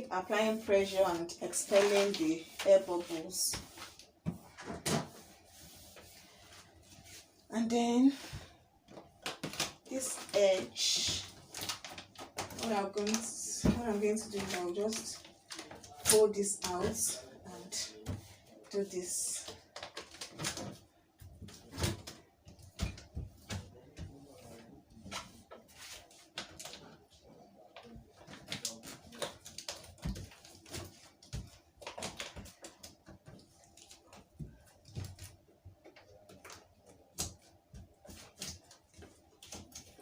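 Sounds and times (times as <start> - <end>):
contact paper crinkling: 0.8 - 4.2, 8.9 - 22.2, 24.3 - 40.0.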